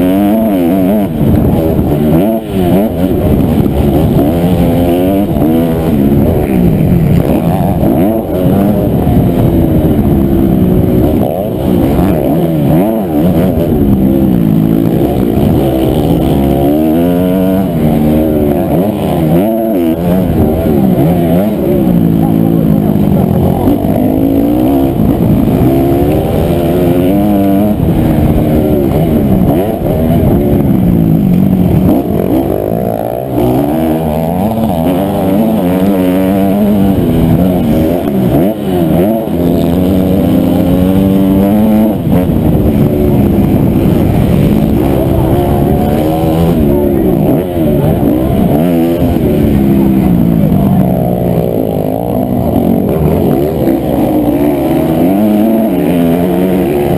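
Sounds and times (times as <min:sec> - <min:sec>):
motocross engine revving hard: 0:00.0 - 0:56.9.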